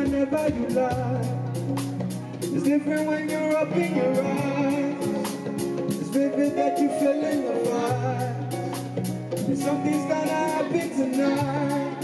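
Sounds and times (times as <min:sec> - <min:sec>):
live band playing: 0:00.0 - 0:12.0
man singing wordless melody: 0:00.0 - 0:12.0.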